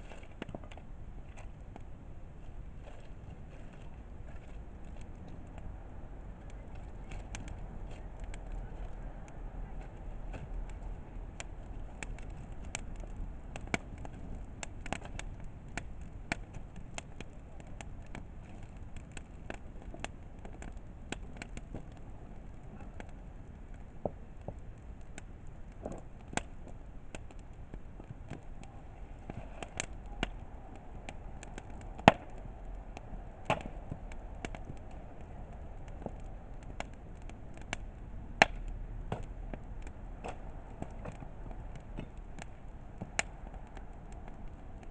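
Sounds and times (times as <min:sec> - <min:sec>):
campfire crackling: 0:00.0 - 0:44.9
low steady hiss: 0:00.0 - 0:44.9.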